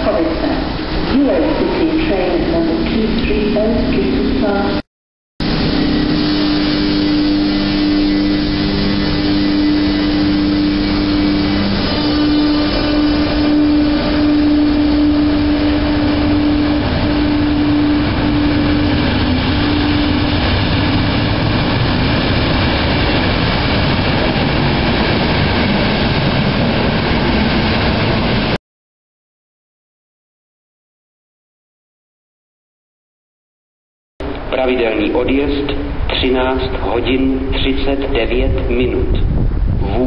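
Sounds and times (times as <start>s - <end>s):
electrical hum of locomotive: 0.0s - 4.8s, 5.4s - 28.6s, 34.2s - 40.0s
train coaches rumbling on rails: 0.0s - 4.8s, 5.4s - 28.6s, 34.2s - 40.0s.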